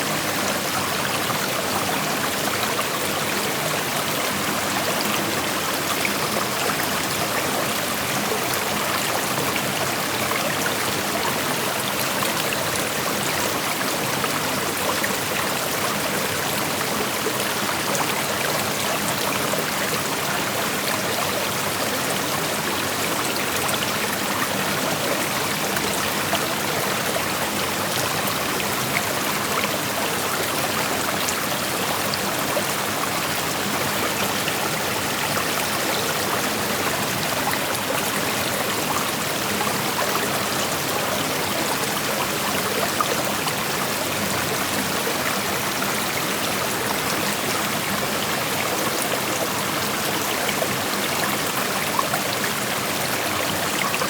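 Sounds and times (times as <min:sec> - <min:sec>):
creek flowing over rocks: 0:00.0 - 0:54.0.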